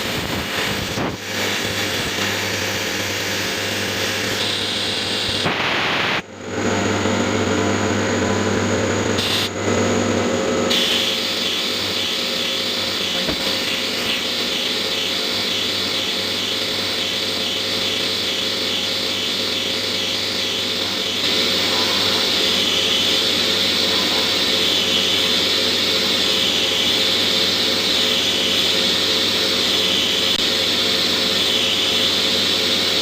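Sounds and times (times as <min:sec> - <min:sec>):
milling machine cutting: 0:00.0 - 0:33.0.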